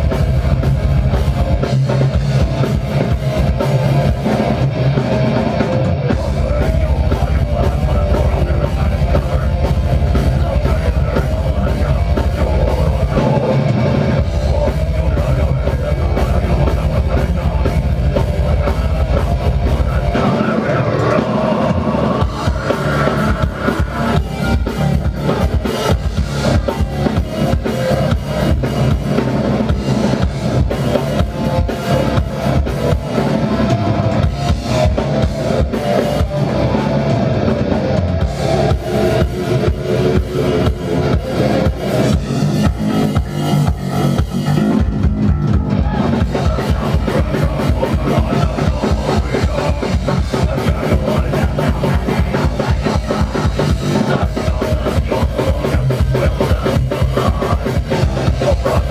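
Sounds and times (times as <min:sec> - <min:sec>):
fast drumming on drum kit: 0:00.0 - 0:58.9
heavy guitars and bass: 0:00.0 - 0:58.9.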